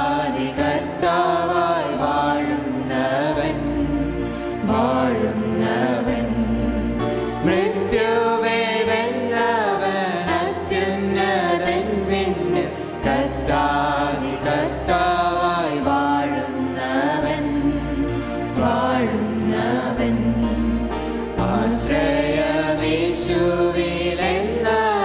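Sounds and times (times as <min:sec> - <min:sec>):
group singing a hymn: 0:00.0 - 0:25.0
instrumental accompaniment: 0:00.0 - 0:25.0
sustained bass notes: 0:00.0 - 0:25.0.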